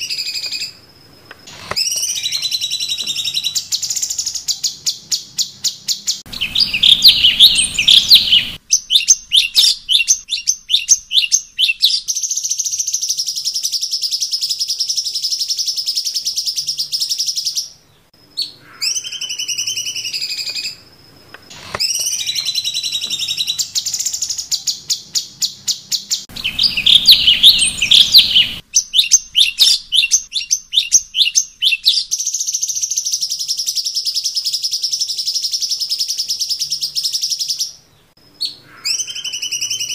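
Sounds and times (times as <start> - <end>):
slurred whistled bird notes: 1.4 - 17.8, 18.4 - 20.9, 21.5 - 39.9
bird rapid chirps and trills: 1.4 - 20.8, 21.5 - 39.9.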